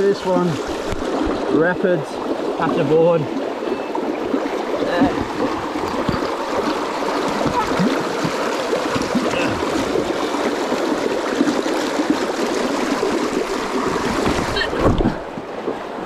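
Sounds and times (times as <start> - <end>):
river water rushing over rapids: 0.0 - 16.0.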